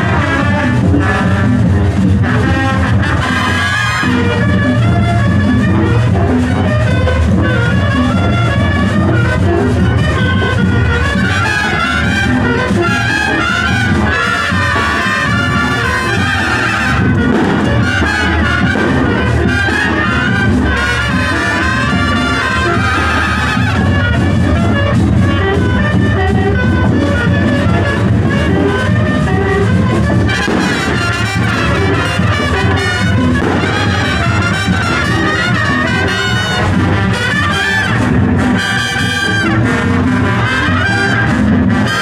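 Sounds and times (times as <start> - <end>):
marching drums: 0.0 - 42.0
trumpets and trombones: 0.0 - 42.0.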